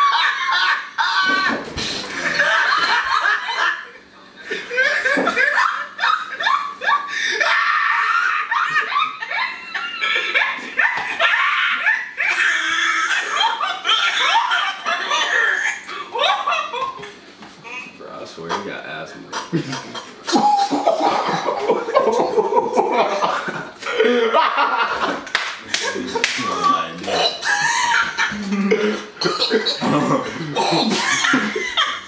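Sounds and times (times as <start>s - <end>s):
men laughing: 0.0s - 32.0s.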